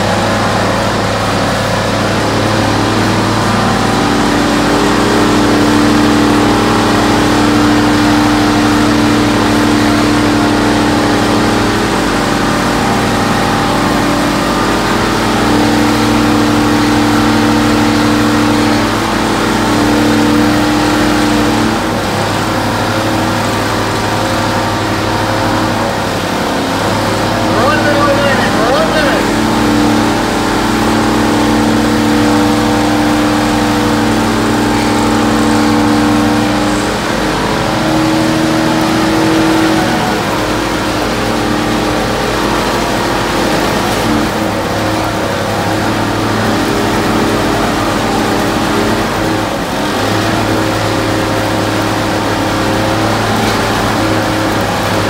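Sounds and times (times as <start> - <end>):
car engine revving high: 0.0 - 55.0.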